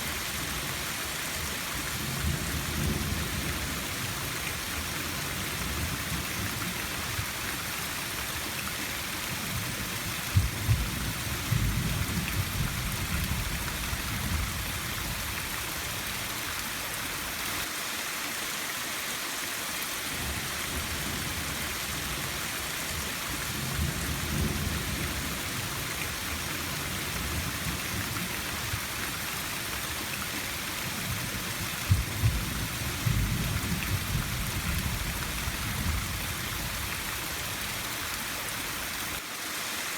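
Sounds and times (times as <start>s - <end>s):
rain falling with hiss: 0.0s - 39.9s.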